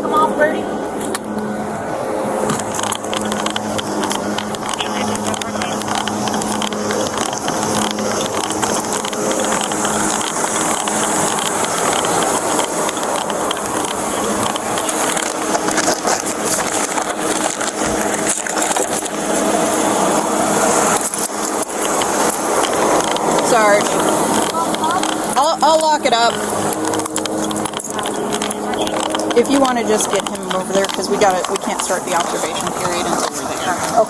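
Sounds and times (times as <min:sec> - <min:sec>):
camera rubbing against clothing: 0:02.1 - 0:34.0.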